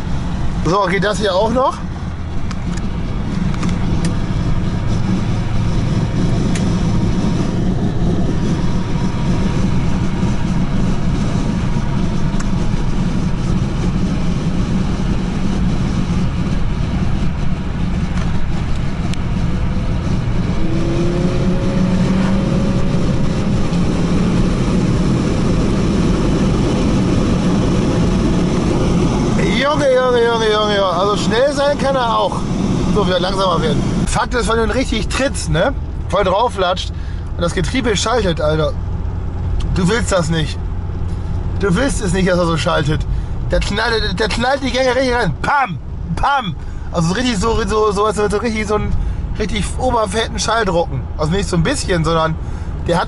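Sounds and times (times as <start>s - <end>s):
car engine and road noise: 0.0s - 53.0s.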